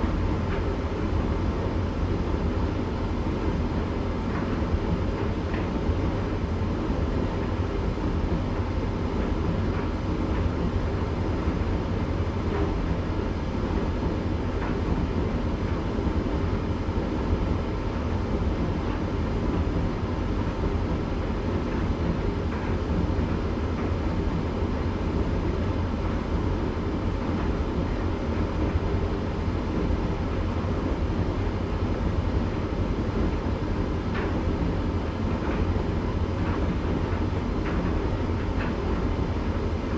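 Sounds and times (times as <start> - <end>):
tumble dryer drum rumbling: 0.0 - 39.9.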